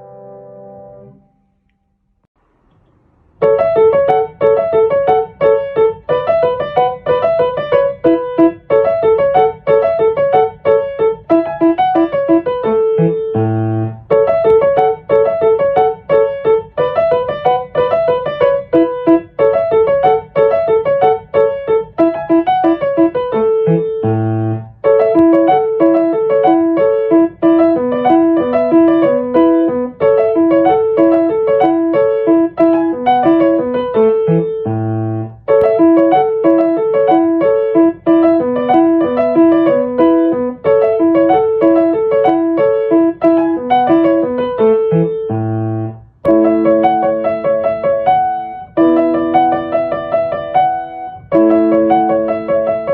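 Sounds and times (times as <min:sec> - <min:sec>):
light piano melody: 0:00.0 - 0:01.7, 0:03.4 - 0:52.9.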